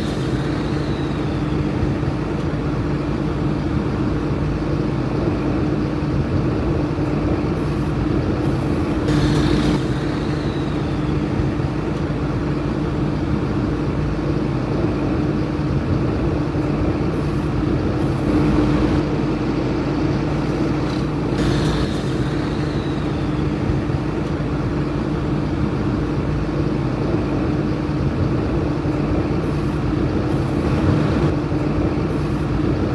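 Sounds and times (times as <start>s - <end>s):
truck engine running: 0.0s - 32.9s.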